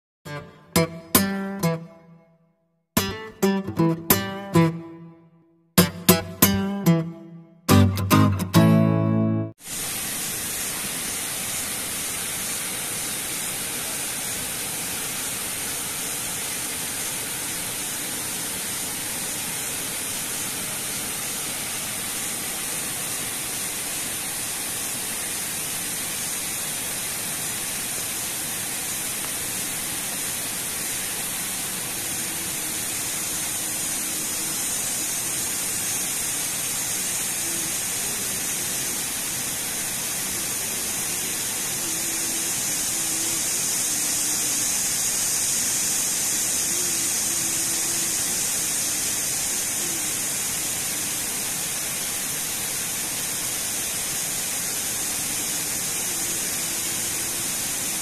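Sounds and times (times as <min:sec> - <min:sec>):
water rushing over weir: 0:09.6 - 0:58.0.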